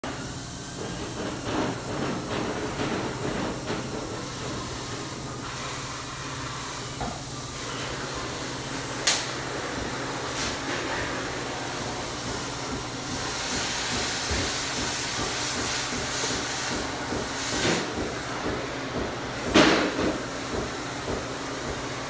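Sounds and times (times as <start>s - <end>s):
shop equipment hum: 0.0s - 22.0s
hiss: 0.1s - 22.0s.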